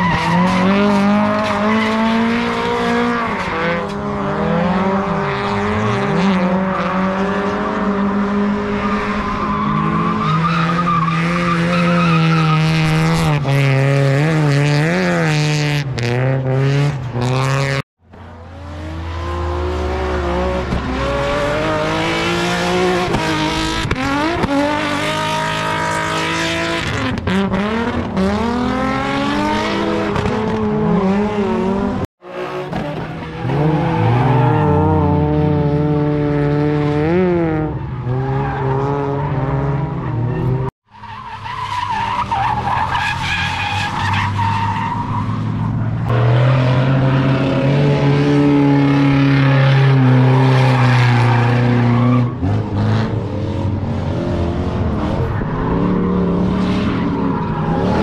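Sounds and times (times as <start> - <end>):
car engines revving high: 0.0 - 58.0.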